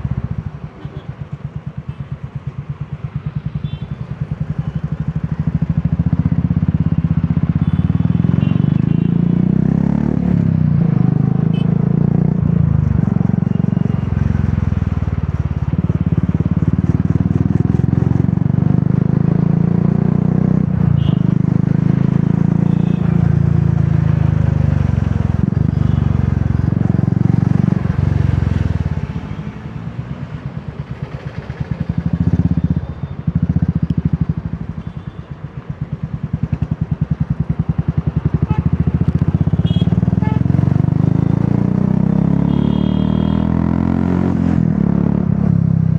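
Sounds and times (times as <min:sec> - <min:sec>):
motorcycle engine riding: 0:00.0 - 0:45.9.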